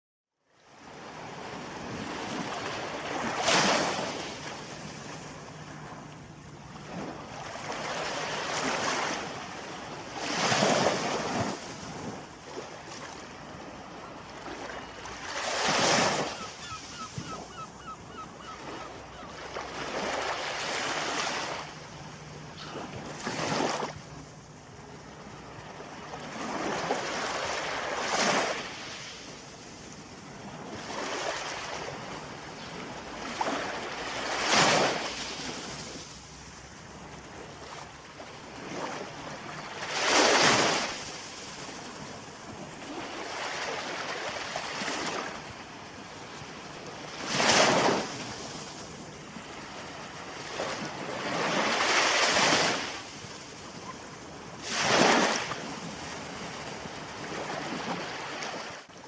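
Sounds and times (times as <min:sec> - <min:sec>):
ocean waves breaking: 0:00.9 - 0:59.0.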